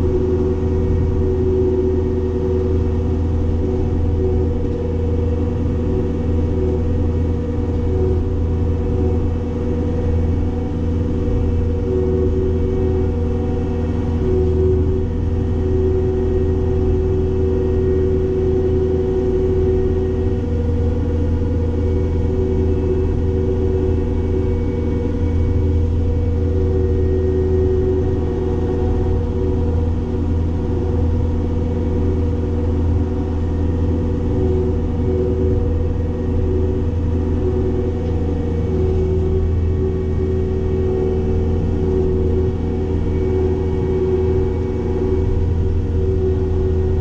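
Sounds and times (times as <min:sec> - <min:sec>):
diesel engine humming: 0:00.0 - 0:47.0.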